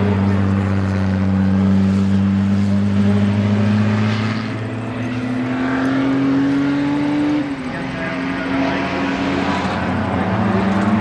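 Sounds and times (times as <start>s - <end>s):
race car engine passing: 0.0s - 11.0s
race car engine rising pitch: 0.0s - 11.0s.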